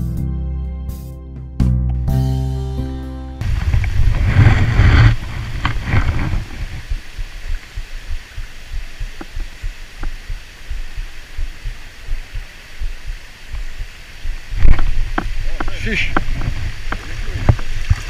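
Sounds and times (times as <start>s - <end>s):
river water flowing: 3.4s - 18.0s
wind buffeting microphone: 3.4s - 18.0s.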